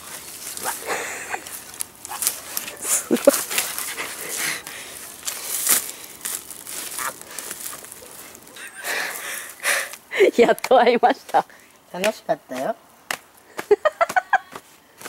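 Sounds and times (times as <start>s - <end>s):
dry leaves and twigs crackling: 0.0s - 15.0s.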